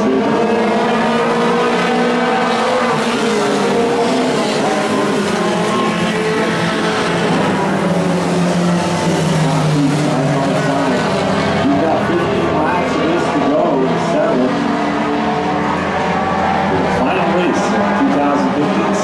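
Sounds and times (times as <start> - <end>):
race truck engines racing: 0.0 - 19.0.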